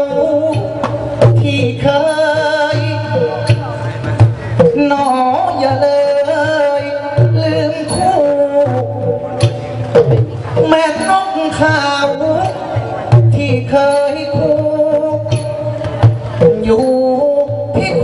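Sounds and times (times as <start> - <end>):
amplified singing with vibrato: 0.0 - 18.0
traditional music with drum strokes: 0.0 - 18.0.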